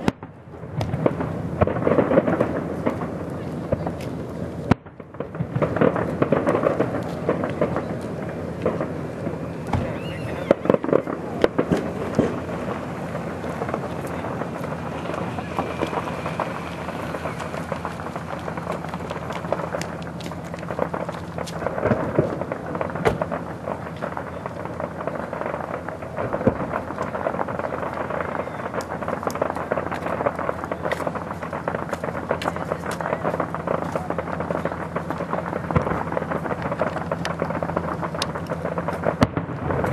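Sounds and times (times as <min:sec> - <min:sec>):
fireworks booming and crackling: 0:00.0 - 0:39.9
loud fireworks bangs: 0:00.0 - 0:39.9.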